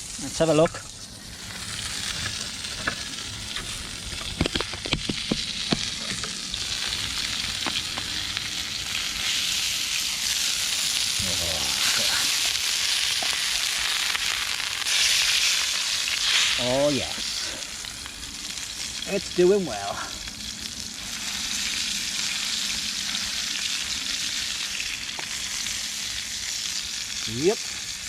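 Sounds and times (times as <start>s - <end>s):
burger patty sizzling: 0.0s - 28.0s.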